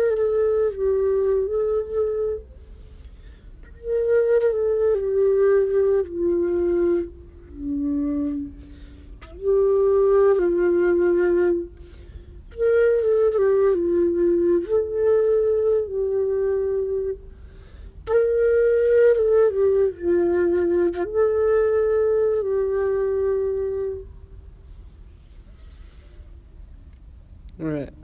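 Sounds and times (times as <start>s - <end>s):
solo flute melody: 0.0s - 26.6s.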